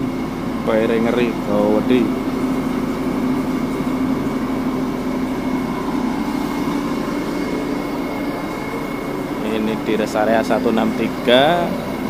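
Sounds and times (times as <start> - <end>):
faint high whine: 0.0 - 12.0
machine low drone: 0.0 - 12.0.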